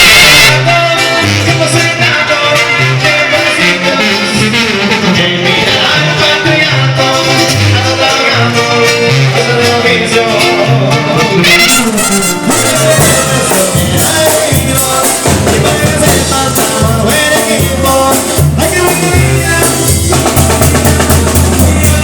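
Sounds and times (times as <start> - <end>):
banda music: 0.0 - 22.0
tuba bass line: 0.0 - 22.0.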